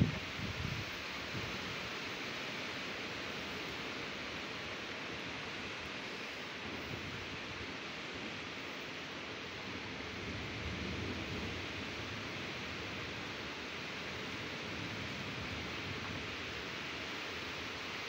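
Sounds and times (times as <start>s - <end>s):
storm rushing hiss: 0.0s - 17.9s.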